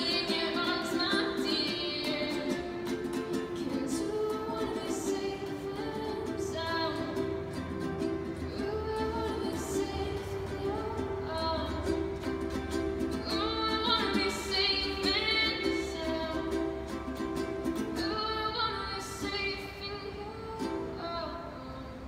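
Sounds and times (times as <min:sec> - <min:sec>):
ukulele plucked chords: 0:00.0 - 0:21.6
girl singing: 0:00.0 - 0:22.0.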